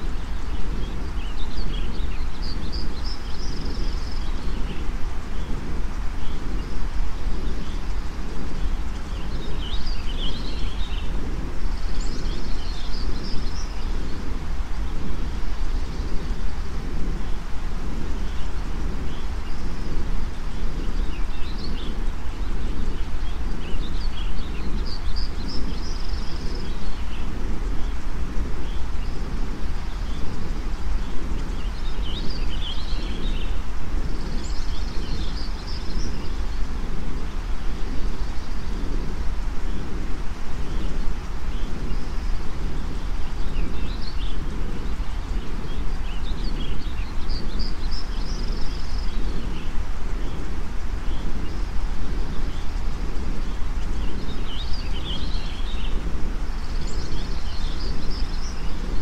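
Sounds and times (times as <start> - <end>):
birds chirping: 0.0 - 59.0
deep rumble: 0.0 - 59.0
steady white noise: 0.0 - 59.0.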